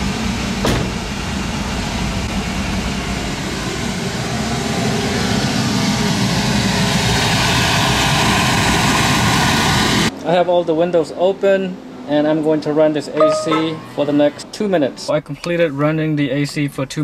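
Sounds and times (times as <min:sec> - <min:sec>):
air conditioning rushing air: 0:00.0 - 0:15.2.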